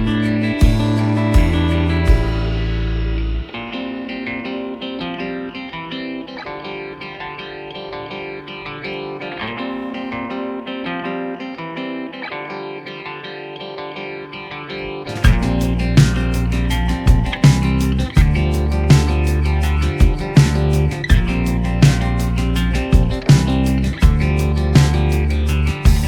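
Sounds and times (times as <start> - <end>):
plucked guitar music: 0.0 - 26.0.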